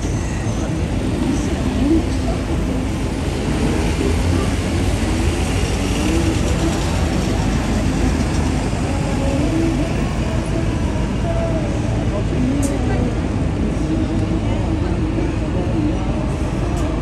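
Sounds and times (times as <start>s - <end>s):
crowd noise: 0.0s - 17.0s
low rumble of traffic: 0.0s - 17.0s.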